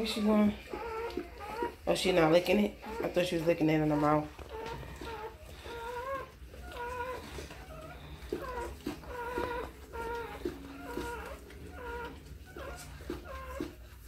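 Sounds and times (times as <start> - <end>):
puppy crying in high squeals: 0.1 - 1.9, 2.7 - 14.0.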